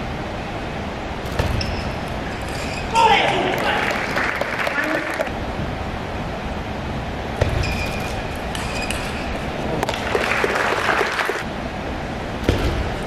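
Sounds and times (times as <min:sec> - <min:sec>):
sports hall noise: 0:00.0 - 0:13.0.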